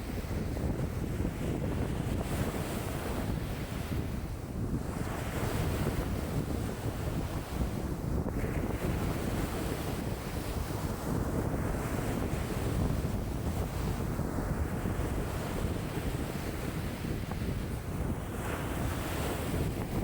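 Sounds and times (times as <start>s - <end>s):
lake waves washing in: 0.0s - 20.0s
wind buffeting microphone: 0.0s - 20.0s.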